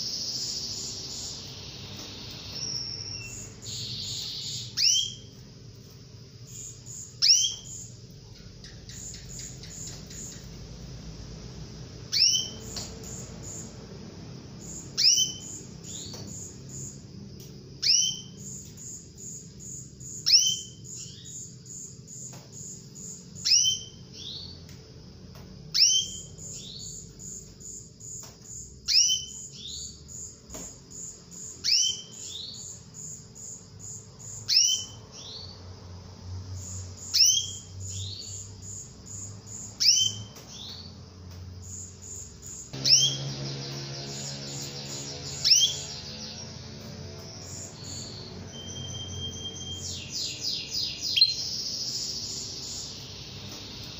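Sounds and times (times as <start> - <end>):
canary calling: 0.0 - 5.5, 6.4 - 10.8, 12.0 - 13.8, 14.5 - 17.0, 17.8 - 24.6, 25.7 - 30.3, 31.0 - 35.6, 36.5 - 40.9, 41.7 - 53.9.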